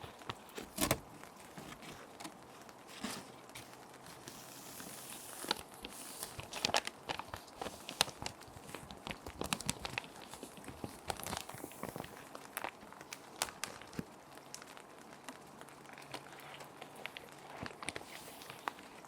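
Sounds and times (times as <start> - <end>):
plastic sheets crinkling: 0.0 - 19.0.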